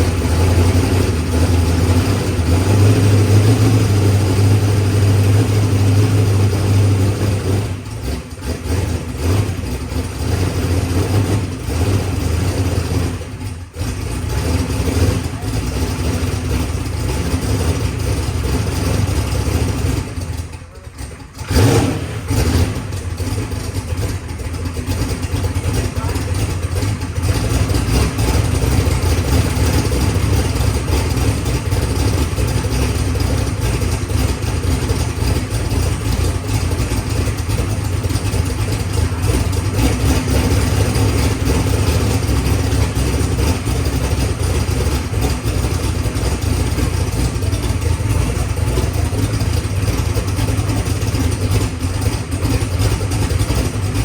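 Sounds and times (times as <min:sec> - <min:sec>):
race car engine idling: 0:00.0 - 0:54.0.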